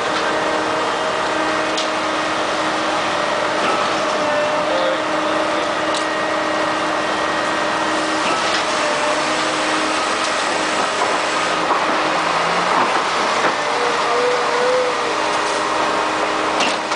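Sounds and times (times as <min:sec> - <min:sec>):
diesel machinery din: 0:00.0 - 0:16.9.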